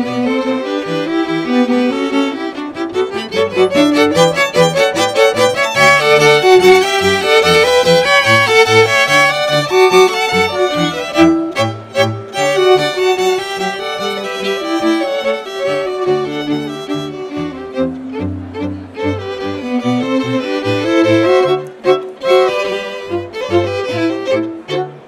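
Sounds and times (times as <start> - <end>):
low cello notes: 0.0 - 25.0
violins and viola bowing short notes: 0.0 - 25.0.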